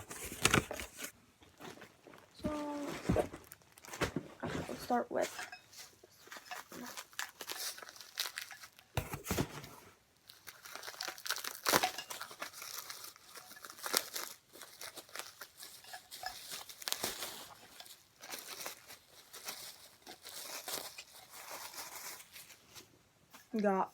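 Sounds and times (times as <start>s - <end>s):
packaging crinkling and tearing: 0.0s - 4.2s, 5.4s - 22.9s.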